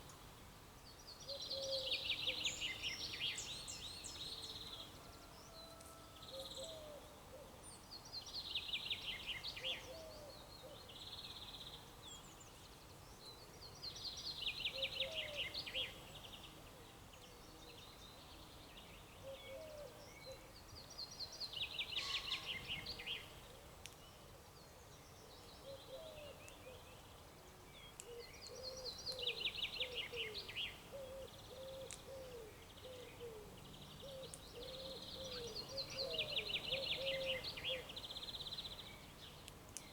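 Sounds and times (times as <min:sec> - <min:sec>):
background noise: 0:00.0 - 0:39.9.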